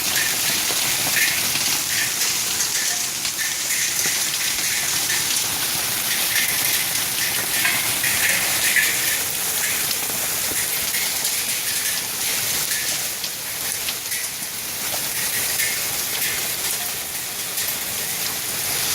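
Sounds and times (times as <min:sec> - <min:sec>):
hail and rain falling: 0:00.0 - 0:18.9.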